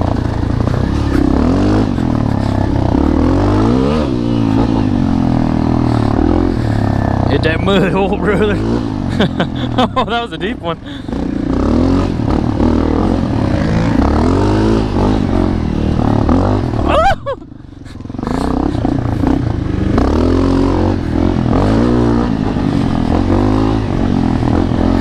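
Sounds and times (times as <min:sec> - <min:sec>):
motorcycle engine ridden hard: 0:00.0 - 0:25.0.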